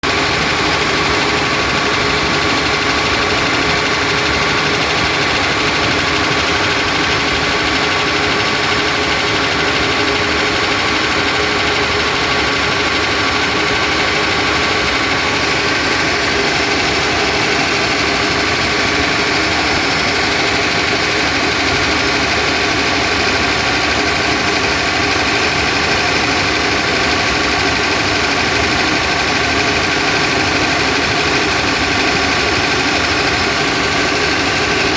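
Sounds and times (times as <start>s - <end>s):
diesel engine running: 0.0s - 34.9s
odd engine noise: 0.0s - 34.9s.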